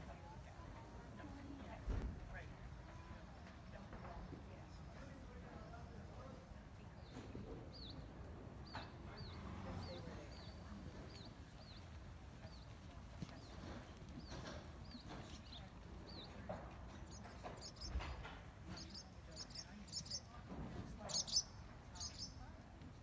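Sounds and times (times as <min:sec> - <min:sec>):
songbird chirping: 0:00.1 - 0:23.0.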